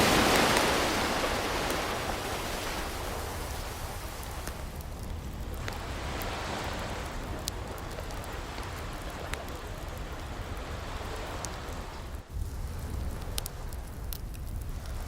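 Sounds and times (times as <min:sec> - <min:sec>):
ocean waves washing: 0:00.0 - 0:14.0
wood fire crackling: 0:00.0 - 0:15.0.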